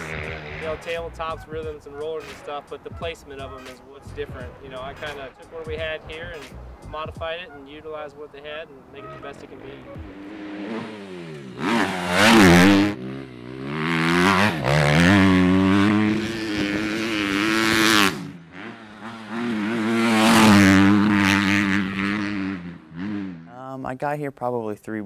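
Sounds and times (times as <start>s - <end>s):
dirt bike engine revving: 0.0s - 23.6s.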